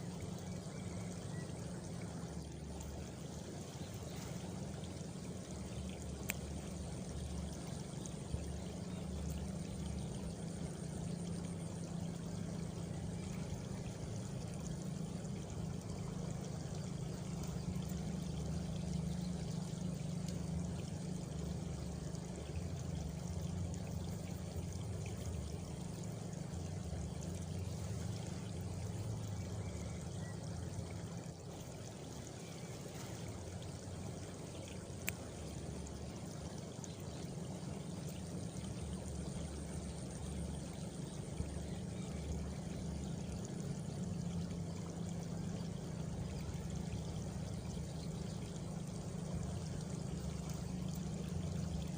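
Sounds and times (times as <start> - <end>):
water rushing: 0.0 - 51.9.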